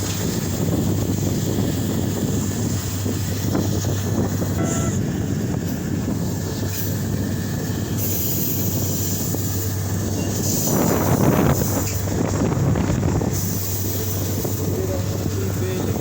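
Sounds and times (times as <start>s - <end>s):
low rumble: 0.0s - 16.0s
wind buffeting microphone: 0.0s - 16.0s.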